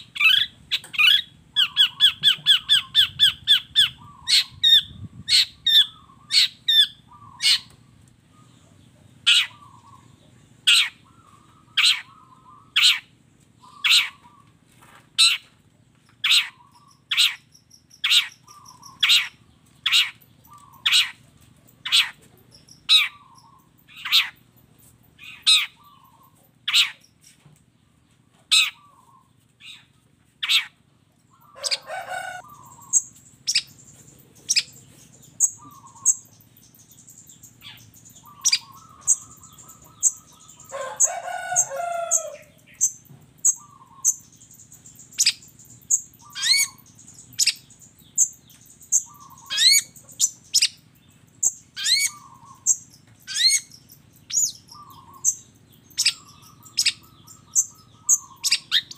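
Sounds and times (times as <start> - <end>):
shrike calling: 0.0 - 8.5, 9.2 - 14.5, 16.2 - 27.2, 28.5 - 58.9.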